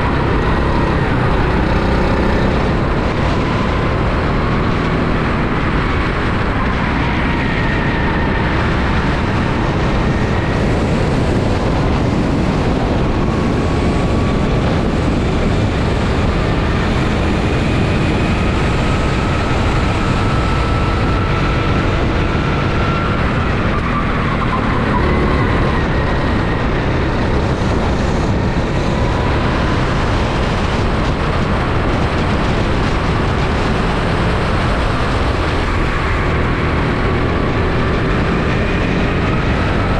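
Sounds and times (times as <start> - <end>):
go-kart engine running: 0.0 - 39.9
steady rushing noise: 0.0 - 39.9.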